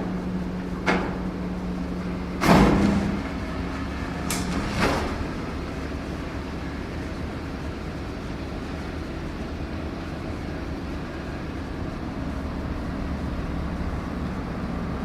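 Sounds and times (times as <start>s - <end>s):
heavy machinery engine rumble: 0.0s - 15.0s.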